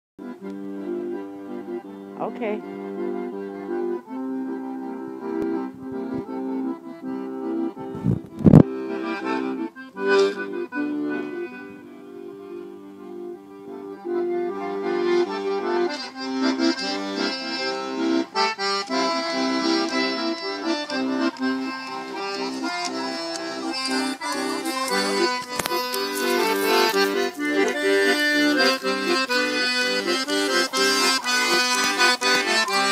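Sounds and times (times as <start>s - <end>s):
accordion playing lively tune: 0.2s - 32.9s.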